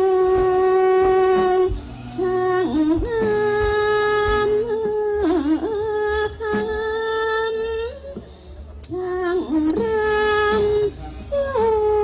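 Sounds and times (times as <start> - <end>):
soft low drum beats: 0.0 - 12.0
wavering held melody: 0.0 - 12.0.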